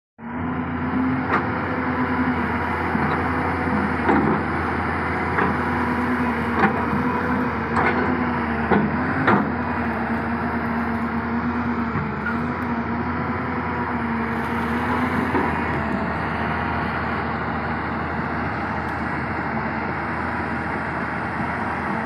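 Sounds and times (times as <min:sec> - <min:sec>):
excavator diesel engine running: 0:00.2 - 0:22.0.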